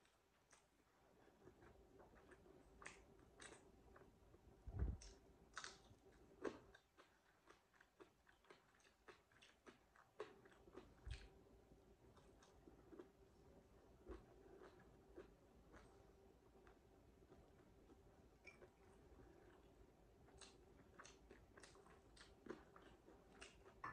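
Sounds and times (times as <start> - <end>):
chewing and lip smacking: 0.0 - 4.1, 4.8 - 11.4, 12.1 - 13.2, 14.0 - 23.9.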